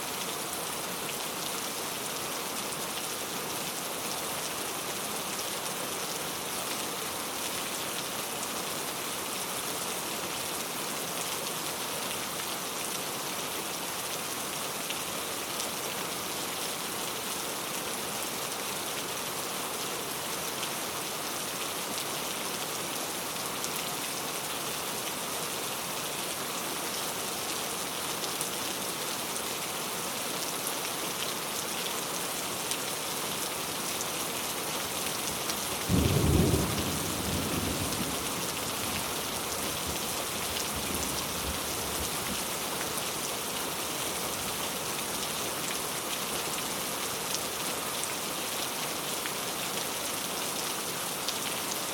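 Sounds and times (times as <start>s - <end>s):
heavy rain falling: 0.1s - 51.9s.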